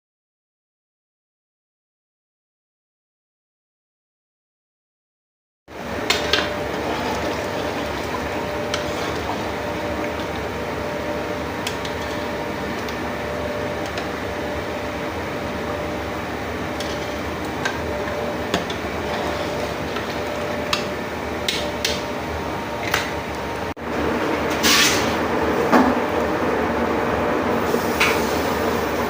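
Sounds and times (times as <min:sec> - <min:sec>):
pot cooking hiss and hum: 0:05.7 - 0:29.0.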